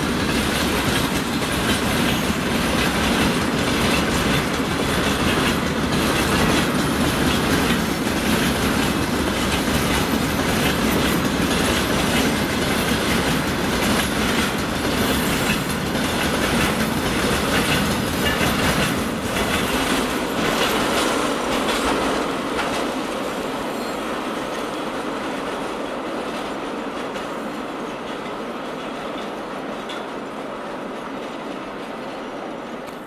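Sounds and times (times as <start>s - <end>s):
freight train rolling past: 0.0s - 33.0s
wheels clacking over rail joints: 0.0s - 33.0s.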